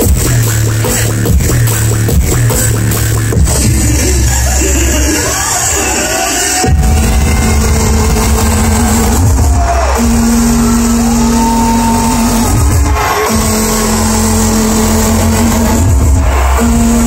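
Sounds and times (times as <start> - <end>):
loud electronic bass music: 0.0 - 17.0.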